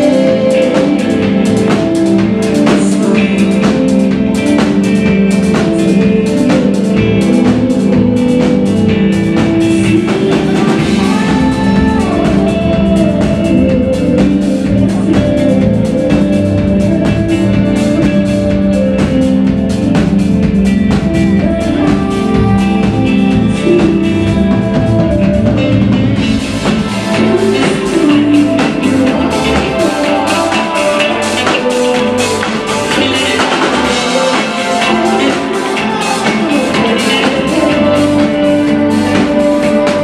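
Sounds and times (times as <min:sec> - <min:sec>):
drum kit: 0:00.0 - 0:40.0
live rock band playing: 0:00.0 - 0:40.0.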